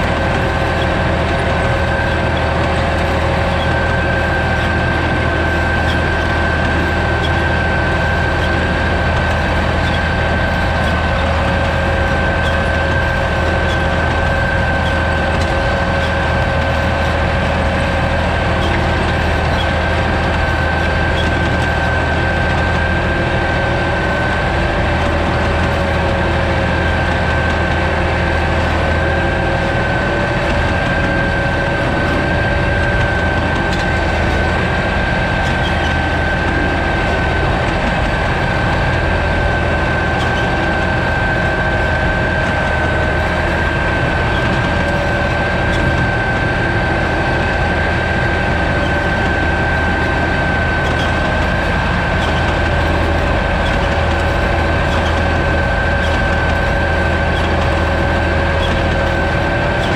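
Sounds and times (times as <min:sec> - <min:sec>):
high whine: 0:00.0 - 0:59.9
tractor engine hum: 0:00.0 - 0:59.9.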